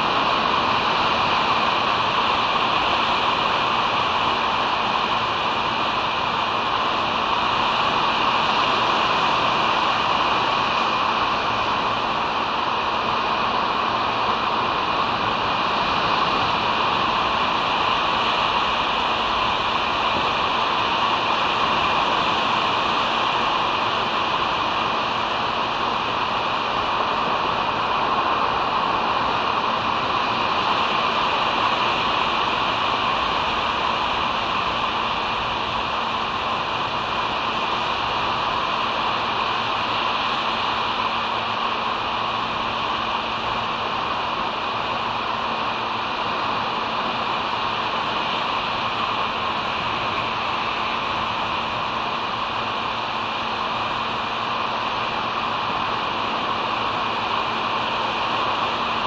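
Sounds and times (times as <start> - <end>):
steady outdoor hiss: 0.0 - 59.0.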